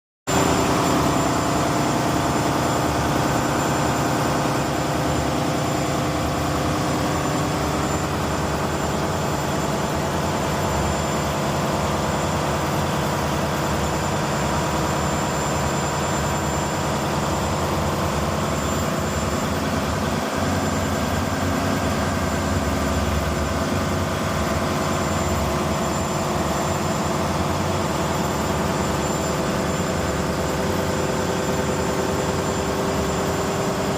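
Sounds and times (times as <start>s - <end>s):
engine room machinery din: 0.3s - 33.9s.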